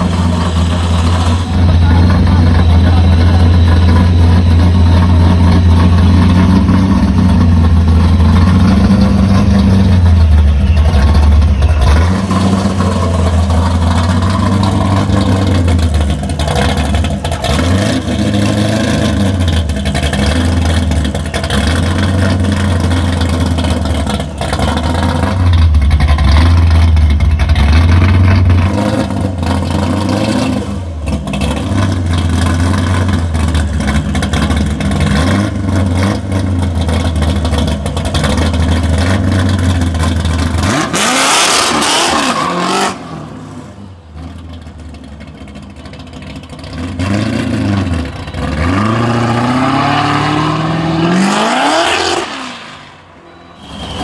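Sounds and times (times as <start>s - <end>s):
car engine running low speed: 0.0s - 51.7s.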